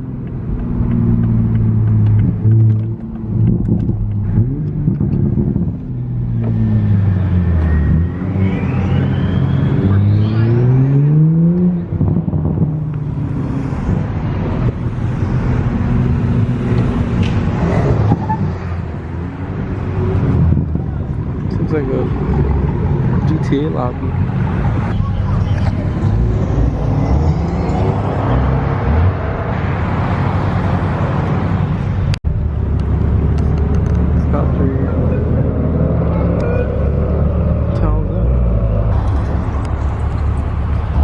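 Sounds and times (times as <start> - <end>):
car engine droning: 0.0 - 41.0.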